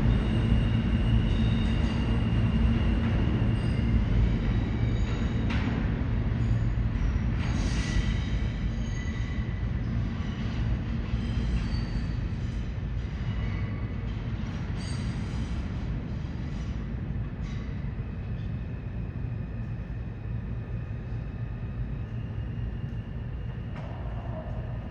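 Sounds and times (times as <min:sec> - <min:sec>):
subway train rumbling: 0:00.0 - 0:24.9.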